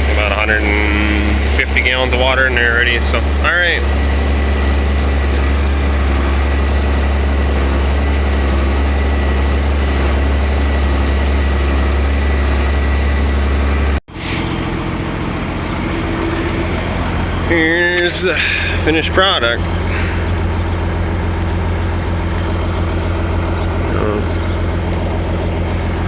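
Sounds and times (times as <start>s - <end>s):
feed mixer engine drone: 0.0s - 26.0s.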